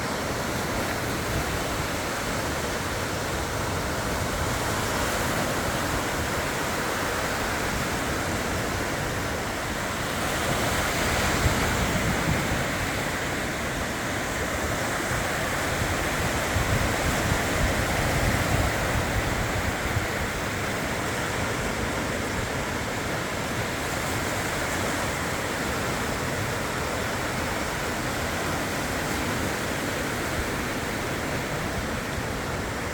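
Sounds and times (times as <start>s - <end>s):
sea surf: 0.0s - 32.9s
strong wind: 0.0s - 32.9s.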